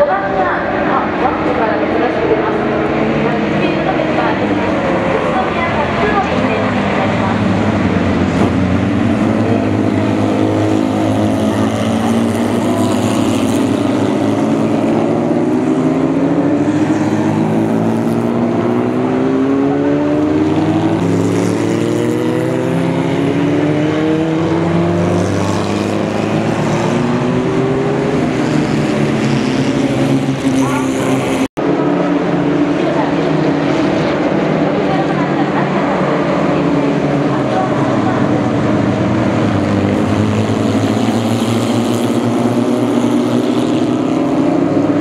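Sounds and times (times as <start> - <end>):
race cars accelerating past: 0.0 - 45.0.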